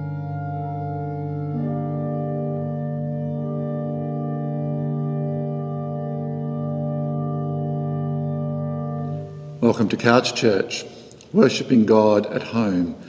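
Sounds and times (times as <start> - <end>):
organ playing slow chords: 0.0 - 13.0.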